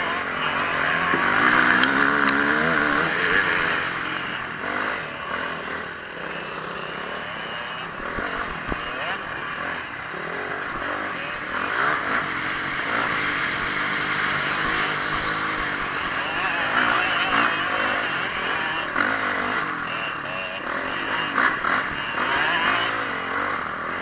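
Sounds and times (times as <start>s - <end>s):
motocross motorcycle engine revving: 0.0s - 24.0s.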